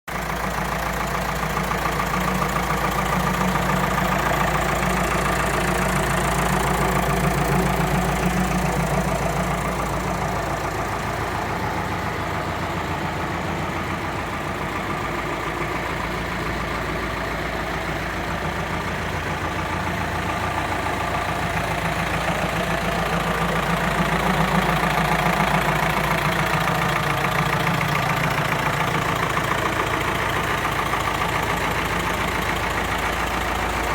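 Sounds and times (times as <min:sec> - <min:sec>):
tractor diesel engine idling: 0:00.1 - 0:33.9.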